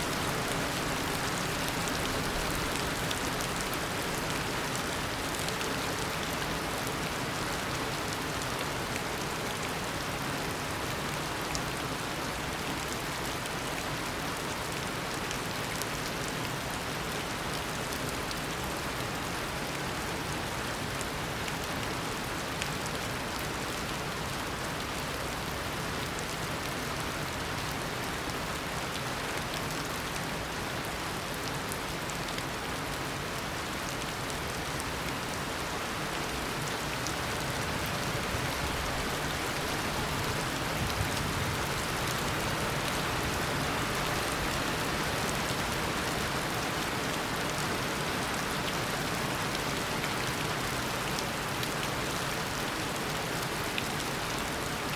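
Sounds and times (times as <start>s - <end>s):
heavy rain downpour: 0.0s - 54.9s
raindrops pattering on surfaces: 0.0s - 54.9s.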